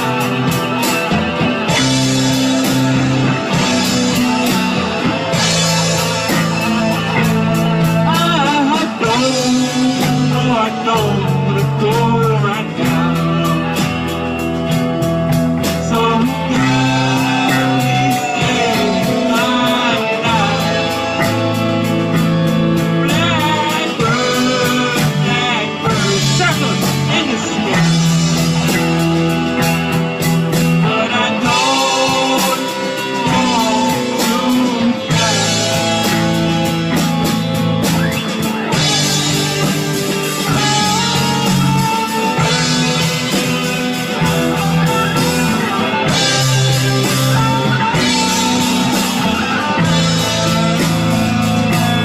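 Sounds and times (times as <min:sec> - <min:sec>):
person singing: 0:00.0 - 0:52.0
rock band playing guitars: 0:00.0 - 0:52.0.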